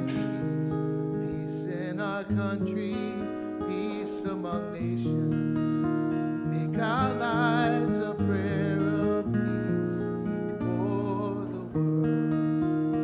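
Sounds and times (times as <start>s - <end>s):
person singing with vibrato: 0.0s - 12.3s
strummed acoustic guitar: 0.0s - 13.0s.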